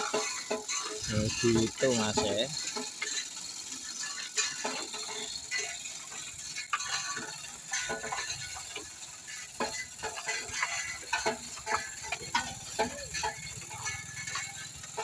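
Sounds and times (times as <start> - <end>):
metal chain rattling: 0.0 - 15.0.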